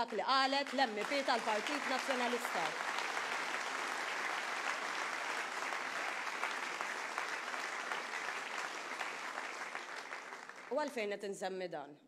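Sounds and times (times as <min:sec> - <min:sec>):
audience applause: 0:00.6 - 0:10.7.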